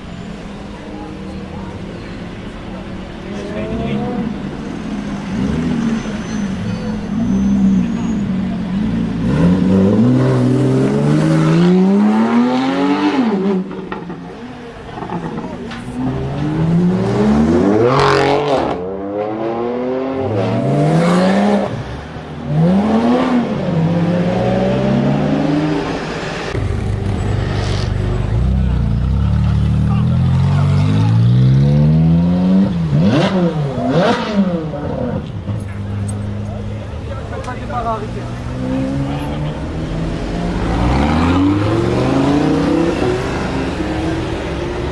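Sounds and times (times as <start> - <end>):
car engine accelerating hard: 3.2 - 44.9.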